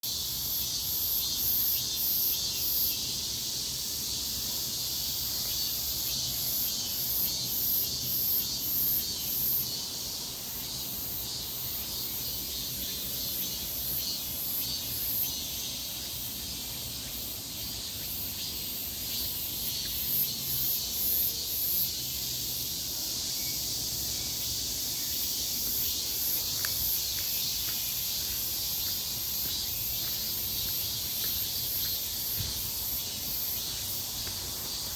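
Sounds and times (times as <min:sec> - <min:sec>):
insects chirping: 0:00.0 - 0:34.9
steady high hiss: 0:00.0 - 0:34.9.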